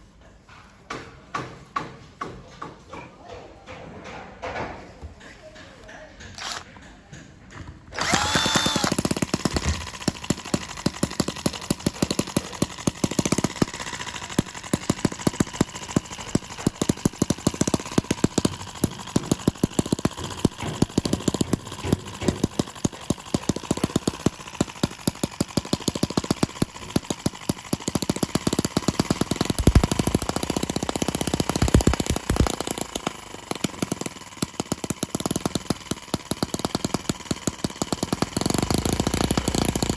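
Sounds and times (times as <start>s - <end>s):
small model engine running: 6.4s - 6.6s, 7.9s - 39.9s.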